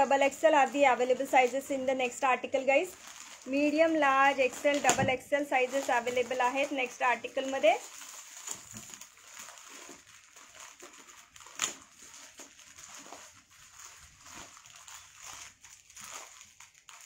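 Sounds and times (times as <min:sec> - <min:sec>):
plastic wrapping rustling: 0:00.0 - 0:17.0.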